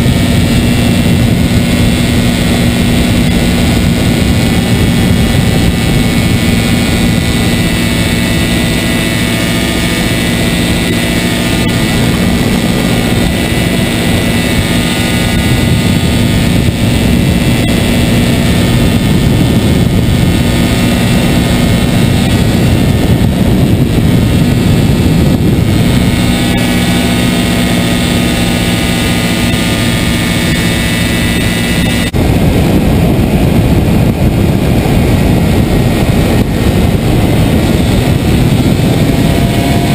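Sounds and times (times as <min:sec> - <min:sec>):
rushing wind: 0:00.0 - 0:39.9
small engine buzzing drone: 0:00.0 - 0:39.9.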